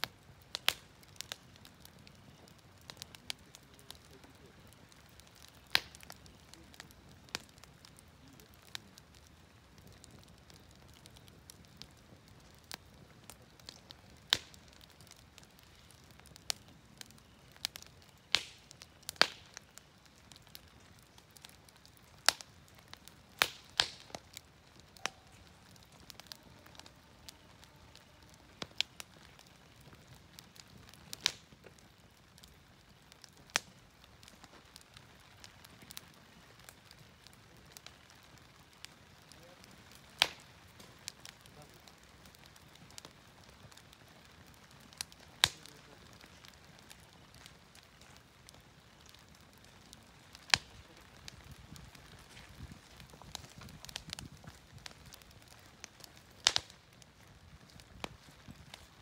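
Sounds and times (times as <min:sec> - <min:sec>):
firewood crackling and popping: 0:00.0 - 0:59.0.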